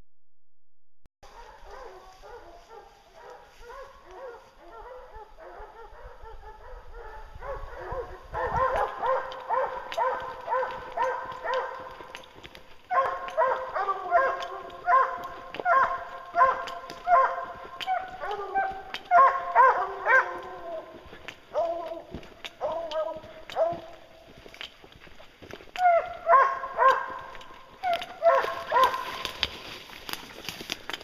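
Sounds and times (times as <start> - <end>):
hounds baying: 1.2 - 30.9.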